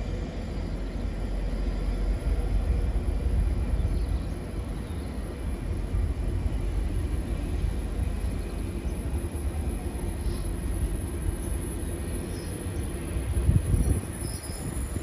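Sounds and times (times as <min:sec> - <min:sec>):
faint steady hum: 0:00.0 - 0:15.0
train wheels rumbling: 0:00.0 - 0:15.0.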